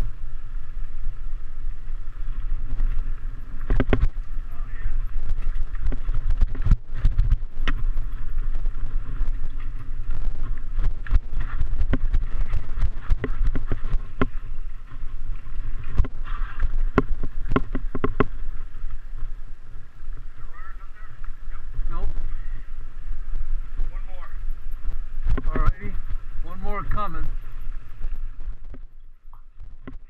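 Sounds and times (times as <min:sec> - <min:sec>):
mountain bike rattling: 0:00.0 - 0:30.0
wind rumble on microphone: 0:00.0 - 0:30.0.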